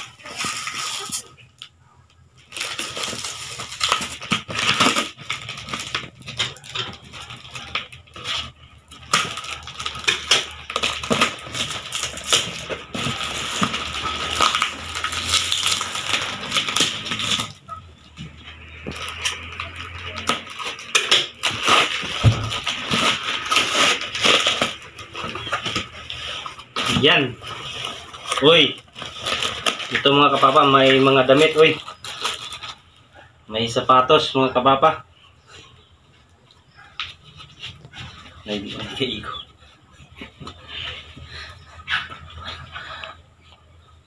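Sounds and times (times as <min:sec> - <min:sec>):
plastic wrap and tape crackling: 0:00.0 - 0:44.0
cardboard rustling: 0:02.4 - 0:33.1, 0:36.8 - 0:42.8.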